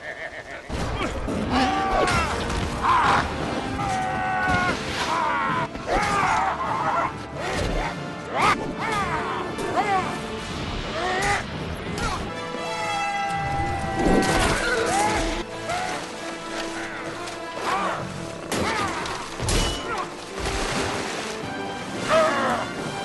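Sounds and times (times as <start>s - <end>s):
film music: 0.0s - 23.0s.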